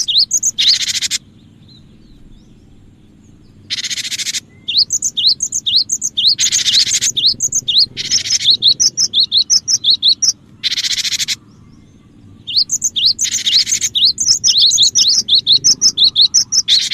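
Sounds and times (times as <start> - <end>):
harsh buzzing bird churrs: 0.0 - 16.9
high chirps of bird: 0.0 - 16.9.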